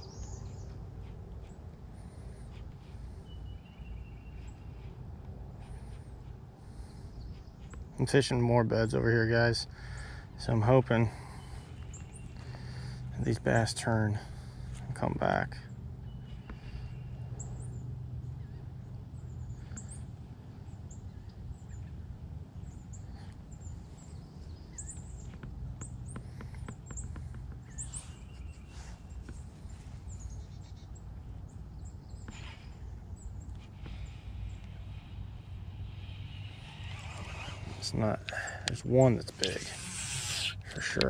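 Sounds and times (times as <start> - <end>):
songbirds chirping: 0.0 - 41.0
steady low hum: 0.0 - 41.0.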